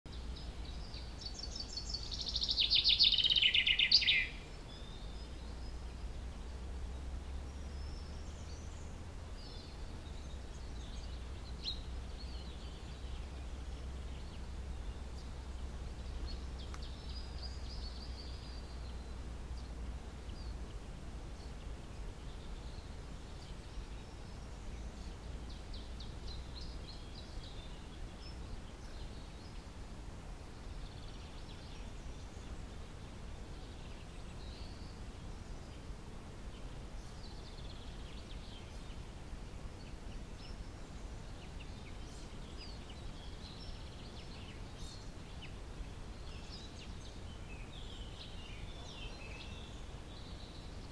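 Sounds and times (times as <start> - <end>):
low outdoor rumble: 0.1 - 50.9
songbirds chirping and trilling: 0.1 - 50.9.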